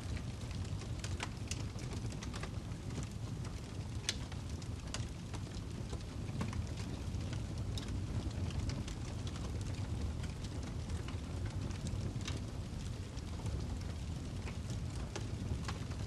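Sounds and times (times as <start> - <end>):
burning log crackles and pops: 0.0 - 16.0
flames rumbling: 0.0 - 16.0.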